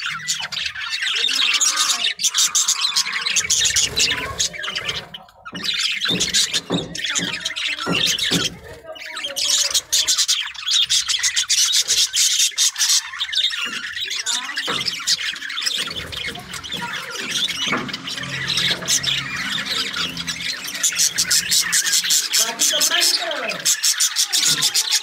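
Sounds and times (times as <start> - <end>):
budgerigars chattering: 0.0 - 25.0.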